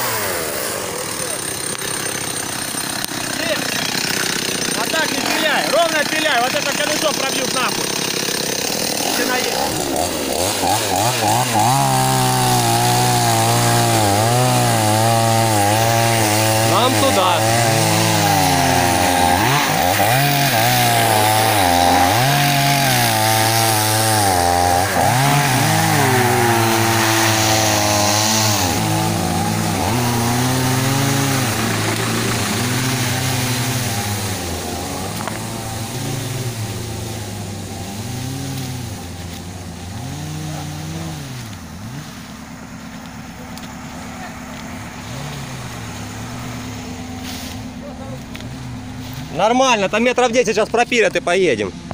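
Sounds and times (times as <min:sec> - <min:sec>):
chainsaw revving cutting wood: 0:00.0 - 0:50.1.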